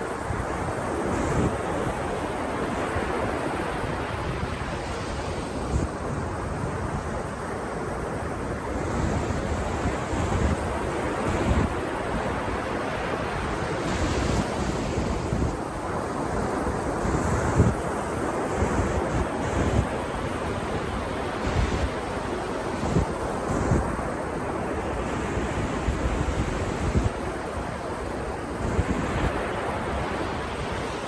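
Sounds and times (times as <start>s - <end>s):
ocean surf on beach: 0.0s - 31.0s.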